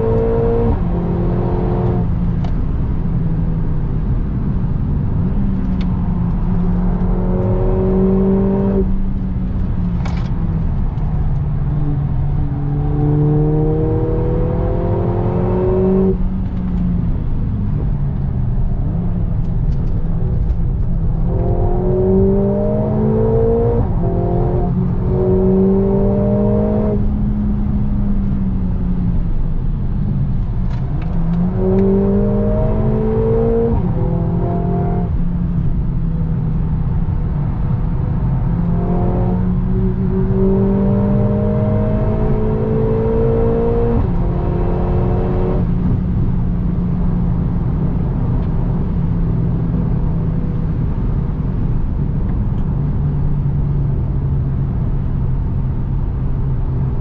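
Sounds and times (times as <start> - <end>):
car engine accelerating and shifting: 0.0 - 57.0.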